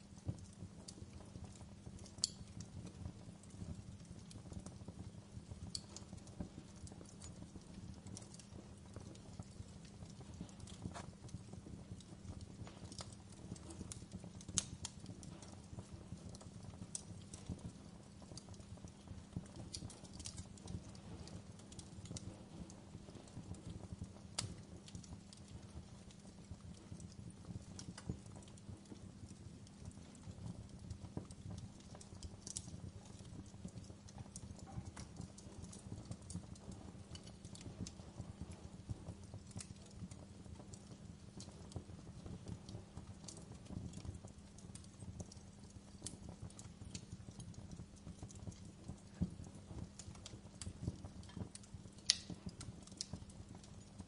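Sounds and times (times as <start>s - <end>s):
faint low hum: 0.0s - 54.0s
fire crackling and popping: 0.0s - 54.0s.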